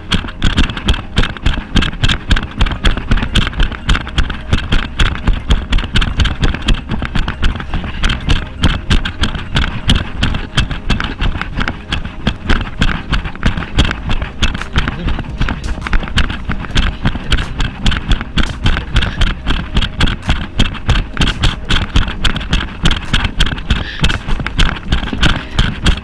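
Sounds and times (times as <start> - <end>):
footsteps on dirt path: 0.0 - 26.0
steady rushing noise: 0.0 - 26.0.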